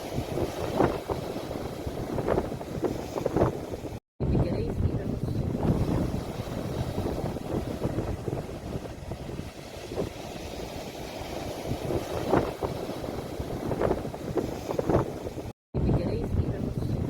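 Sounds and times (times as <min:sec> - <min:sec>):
sea waves washing in: 0:00.0 - 0:04.0, 0:04.8 - 0:15.5
wind on microphone: 0:00.0 - 0:17.0.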